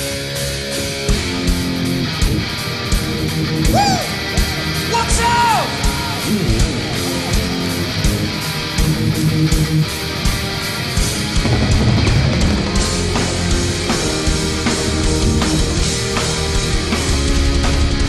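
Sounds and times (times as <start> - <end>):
bending lead guitar notes: 0.0 - 18.0
distorted electric guitars: 0.0 - 18.0
steady drum beat: 1.0 - 18.0.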